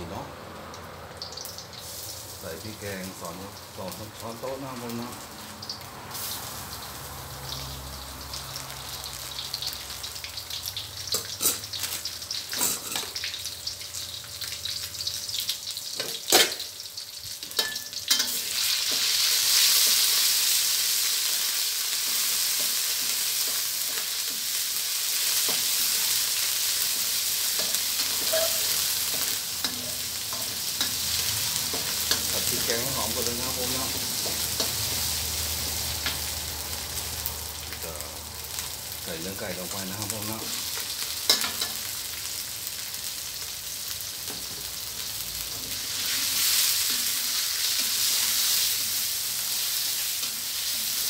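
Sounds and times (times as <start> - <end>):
garlic sizzling in hot oil: 0.0 - 51.0.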